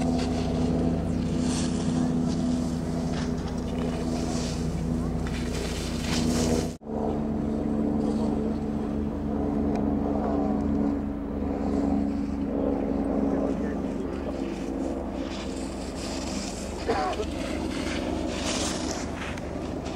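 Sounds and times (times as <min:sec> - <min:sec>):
mechanical engine drone: 0:00.0 - 0:19.9.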